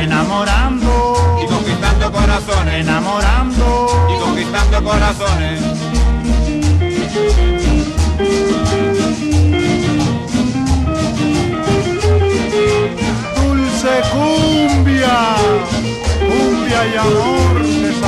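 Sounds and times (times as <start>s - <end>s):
loud cumbia music: 0.0s - 18.0s.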